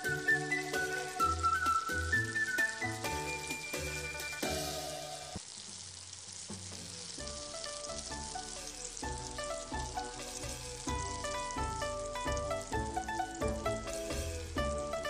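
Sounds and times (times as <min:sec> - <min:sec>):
plucked melody music: 0:00.0 - 0:05.3, 0:07.1 - 0:15.0
hot oil sizzling in a wok: 0:00.0 - 0:15.0.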